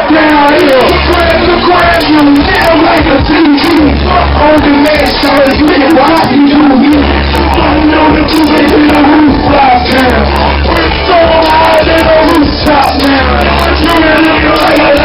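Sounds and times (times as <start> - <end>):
deep bass notes: 0.0 - 15.0
loud hip-hop music: 0.0 - 15.0
vocals over music: 0.0 - 15.0.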